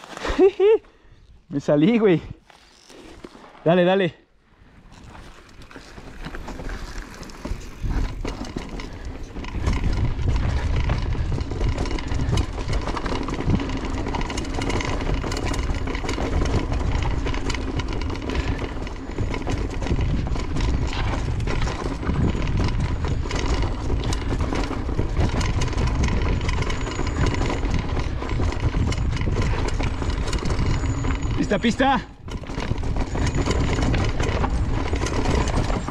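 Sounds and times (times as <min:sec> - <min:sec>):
bike tyres rolling over dirt: 0:00.0 - 0:35.9
bike rattling over bumps: 0:04.6 - 0:35.9
wind rumbling on microphone: 0:05.0 - 0:31.6, 0:32.2 - 0:35.9.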